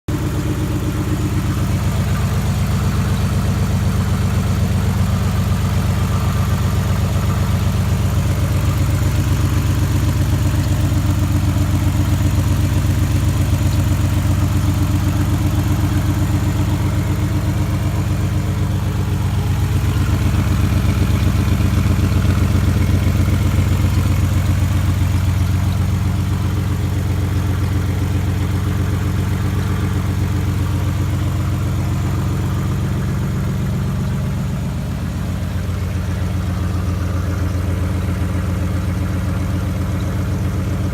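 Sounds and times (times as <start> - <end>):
car engine idling with ticking: 0.1 - 40.9.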